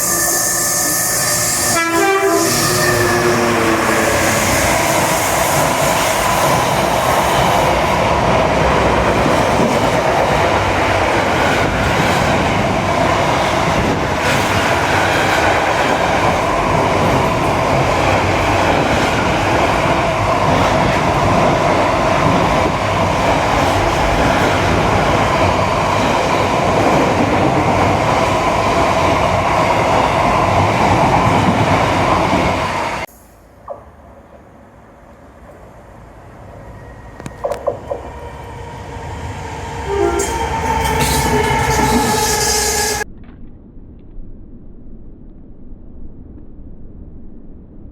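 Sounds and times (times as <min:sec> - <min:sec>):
train passing at speed: 0:00.0 - 0:43.1.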